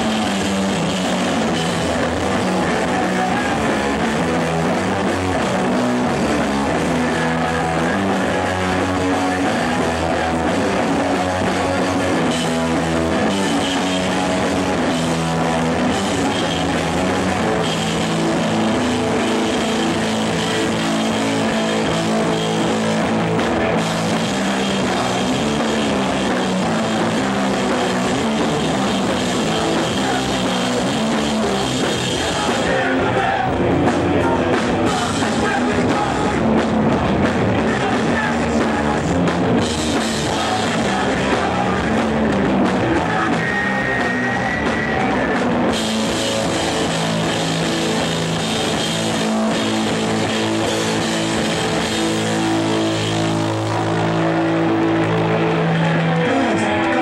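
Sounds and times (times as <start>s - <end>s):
punk band playing live: 0.0s - 57.0s.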